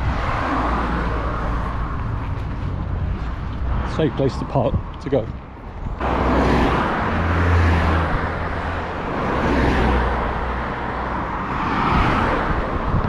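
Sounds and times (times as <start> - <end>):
cars passing close by: 0.0 - 13.0.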